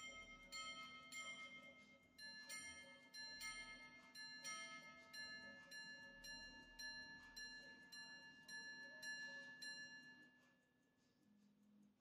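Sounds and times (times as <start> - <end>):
pocket watch chiming on gongs: 0.0 - 10.4.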